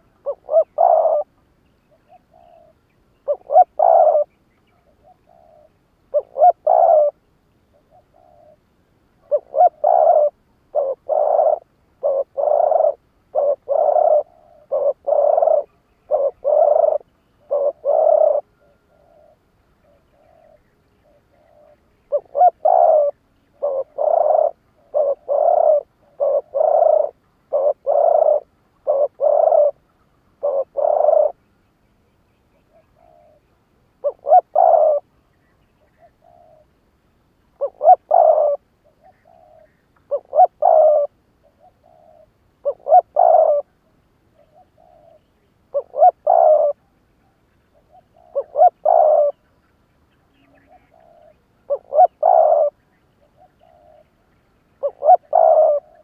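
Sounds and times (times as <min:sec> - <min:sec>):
dove cooing: 0:00.0 - 0:31.4, 0:32.6 - 0:35.2, 0:35.8 - 0:36.8, 0:37.5 - 0:49.6, 0:50.2 - 0:56.0.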